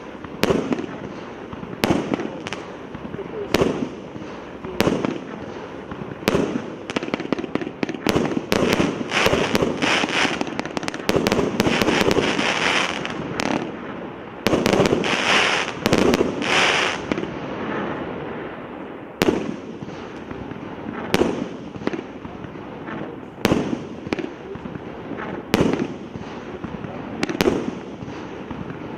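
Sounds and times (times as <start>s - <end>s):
fireworks bangs: 0.0s - 28.9s
fireworks crackling hiss: 0.0s - 28.9s.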